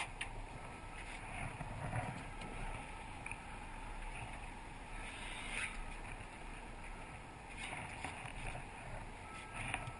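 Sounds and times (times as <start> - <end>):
low engine rumble: 0.0 - 9.9.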